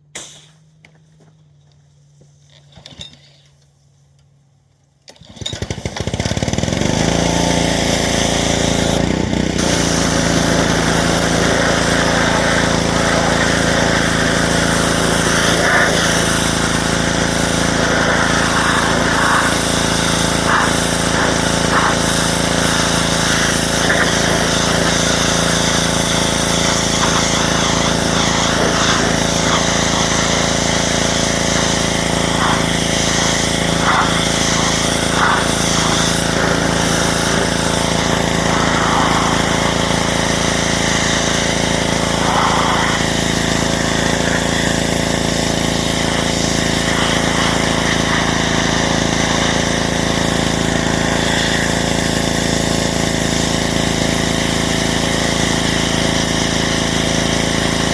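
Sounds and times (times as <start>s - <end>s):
pressure washer running: 5.2s - 57.9s
water jet spraying hiss: 9.6s - 56.2s.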